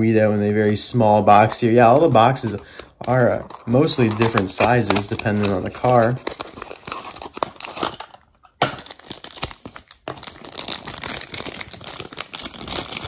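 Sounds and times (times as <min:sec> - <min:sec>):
cardboard packaging rustling: 0:00.4 - 0:13.0.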